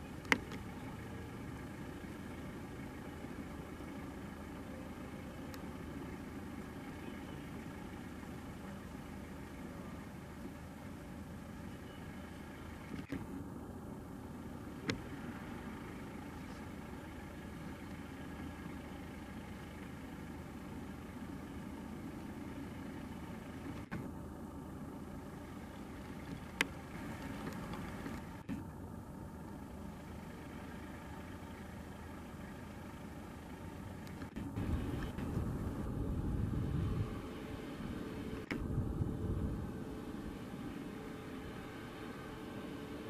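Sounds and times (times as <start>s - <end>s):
distant engine hum: 0.0s - 43.0s.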